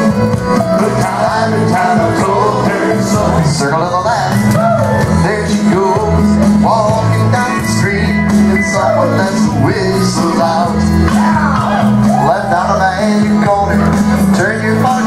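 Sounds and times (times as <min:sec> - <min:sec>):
country square dance music: 0:00.0 - 0:15.0.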